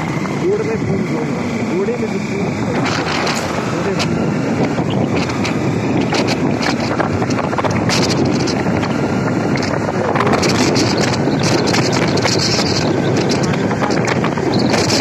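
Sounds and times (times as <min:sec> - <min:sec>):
motorcycle engine running: 0:00.0 - 0:15.0
road noise: 0:00.0 - 0:15.0
wind buffeting microphone: 0:00.0 - 0:15.0.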